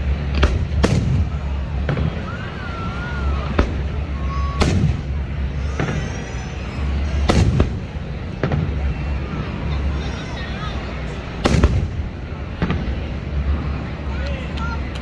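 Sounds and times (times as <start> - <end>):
fireworks banging: 0.0 - 15.0
steady low rumble: 0.0 - 15.0.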